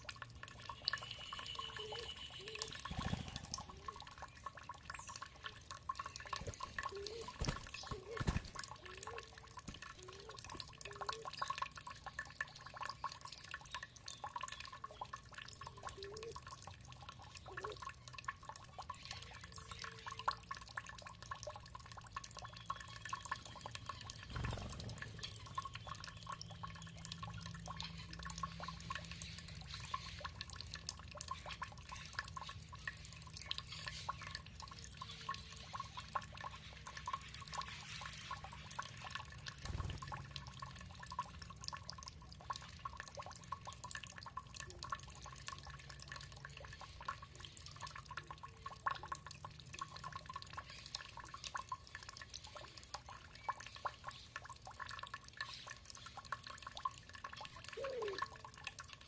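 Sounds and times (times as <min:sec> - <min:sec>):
low gurgling plinks: 0:00.0 - 0:59.0
water trickling and dripping: 0:00.0 - 0:59.0.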